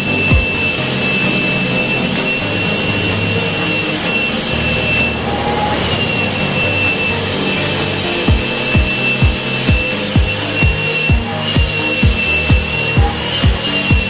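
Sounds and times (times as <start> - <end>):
high machine whine: 0.0 - 14.0
low hum: 0.0 - 14.0.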